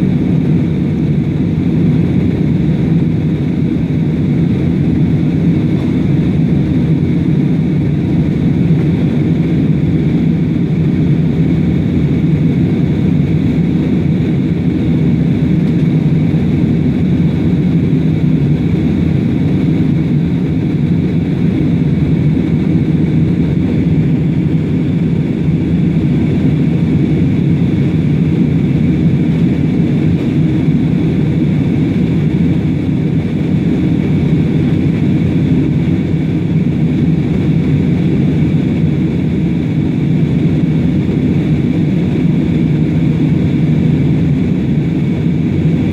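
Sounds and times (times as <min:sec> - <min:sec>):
airplane engines low rumble: 0:00.0 - 0:45.9.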